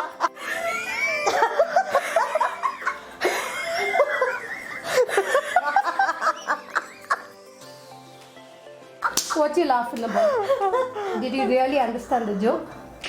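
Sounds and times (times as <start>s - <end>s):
young women laughing: 0.0s - 7.4s, 9.0s - 12.6s.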